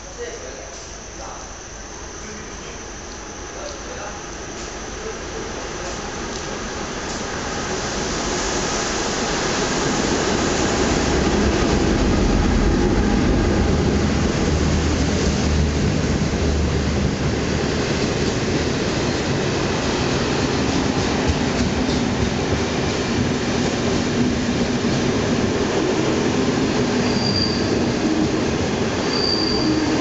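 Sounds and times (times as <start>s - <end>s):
diesel locomotive engine: 0.0s - 30.0s
train coaches rolling on rails: 3.6s - 30.0s.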